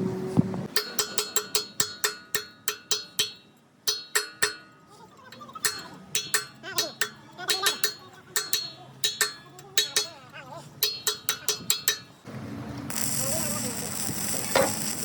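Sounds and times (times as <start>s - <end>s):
hammer striking steel: 0.7s - 12.3s, 12.9s - 15.0s.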